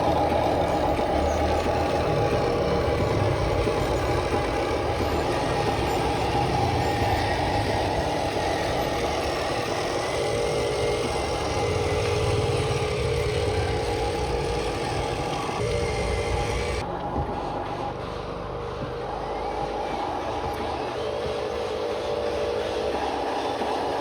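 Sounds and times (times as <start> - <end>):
model vehicles engine-like hum: 0.0 - 24.0.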